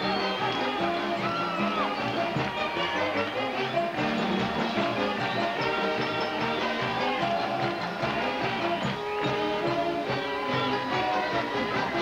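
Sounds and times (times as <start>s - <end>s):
string band playing live: 0.0s - 12.0s.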